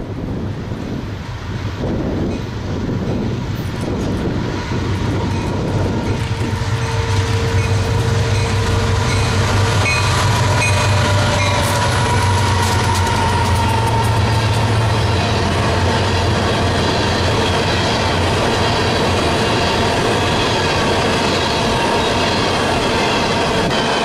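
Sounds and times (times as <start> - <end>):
diesel locomotive engine drone: 0.0 - 24.0
train wheels clacking on rails: 2.0 - 24.0.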